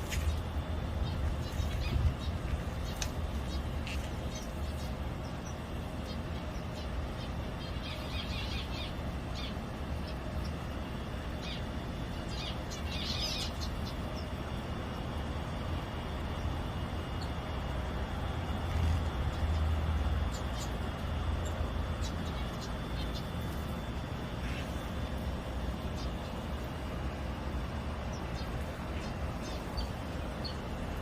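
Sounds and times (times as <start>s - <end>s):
small birds twittering: 0.0s - 31.0s
steady low rumble: 0.0s - 31.0s.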